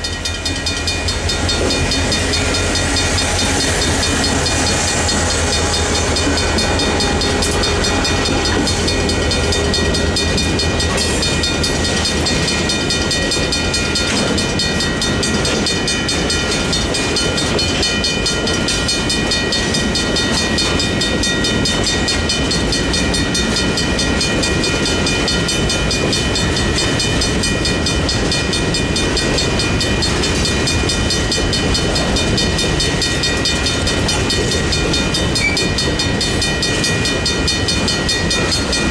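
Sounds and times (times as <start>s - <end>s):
crossing bells ringing: 0.0s - 38.9s
freight train clattering over rails: 0.0s - 38.9s.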